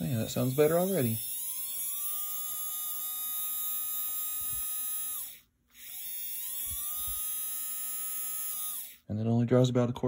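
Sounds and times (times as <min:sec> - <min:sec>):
electric motor whine: 0:00.0 - 0:09.0.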